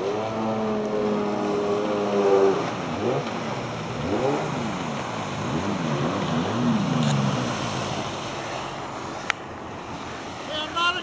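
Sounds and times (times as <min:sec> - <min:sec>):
jet ski engine revving: 0:00.0 - 0:10.4.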